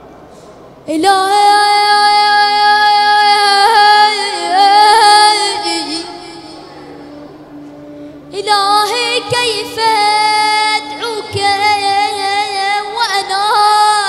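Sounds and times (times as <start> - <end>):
boy chanting into microphone: 0.9 - 14.0.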